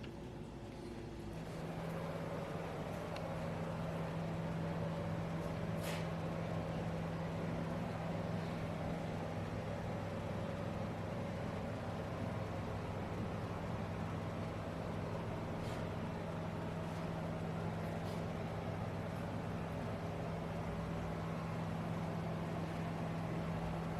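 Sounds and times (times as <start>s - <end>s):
machine humming: 0.0s - 23.9s.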